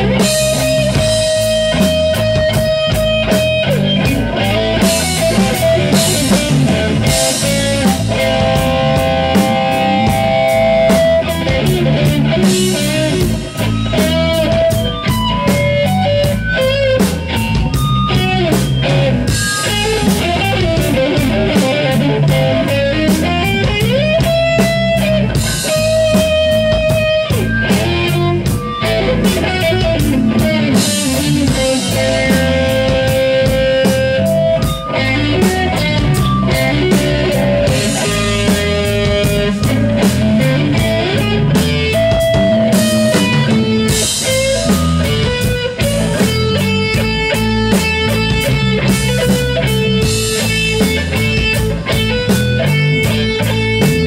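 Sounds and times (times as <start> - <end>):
bass guitar: 0.0 - 54.0
drums with cymbal beat: 0.0 - 54.0
electric guitar lead: 0.0 - 54.0.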